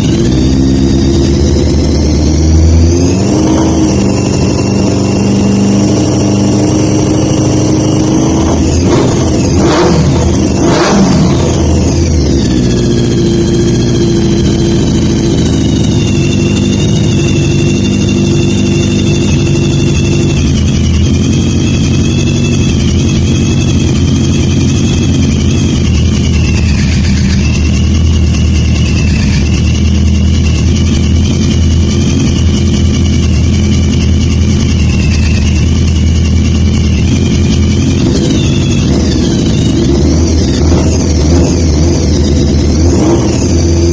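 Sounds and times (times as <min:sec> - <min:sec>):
motorcycle engine idling: 0:03.8 - 0:43.9.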